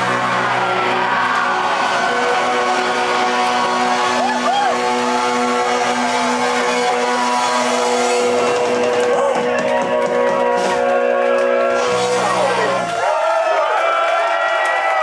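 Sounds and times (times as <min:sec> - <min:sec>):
electric guitars: 0:00.0 - 0:13.3
drums: 0:00.0 - 0:15.0.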